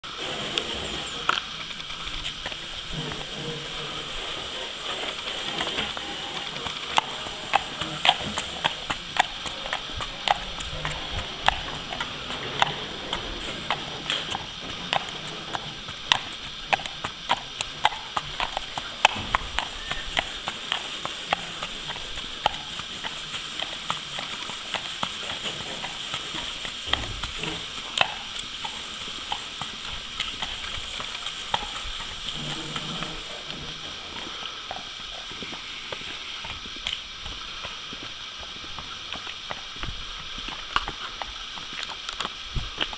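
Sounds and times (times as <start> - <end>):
horse hooves clip-clopping on tarmac: 0.0 - 42.9.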